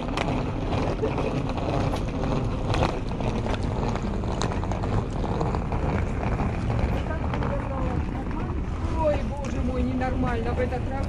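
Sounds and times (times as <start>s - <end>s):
wheeled luggage rolling: 0.0s - 11.0s
wind rumbling on microphone: 0.0s - 11.0s.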